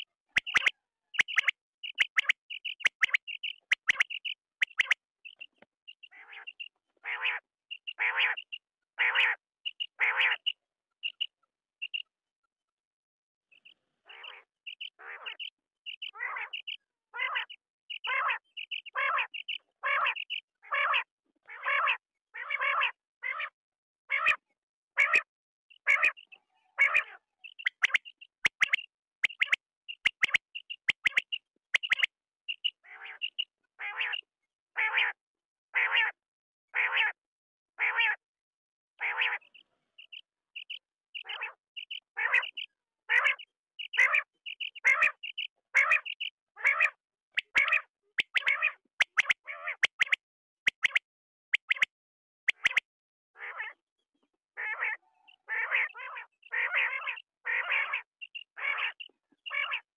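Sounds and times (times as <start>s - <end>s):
quail calling: 0.0s - 11.3s, 14.1s - 24.4s, 25.0s - 35.2s, 39.0s - 51.9s, 52.5s - 52.8s, 53.4s - 53.8s, 54.6s - 59.9s.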